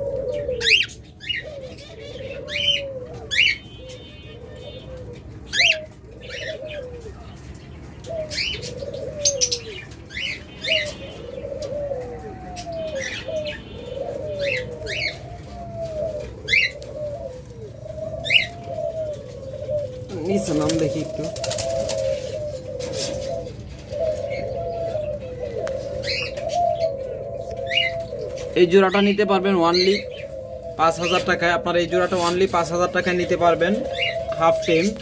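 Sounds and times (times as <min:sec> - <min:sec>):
cage birds chirping: 0:00.0 - 0:35.0
doves cooing: 0:00.0 - 0:35.0.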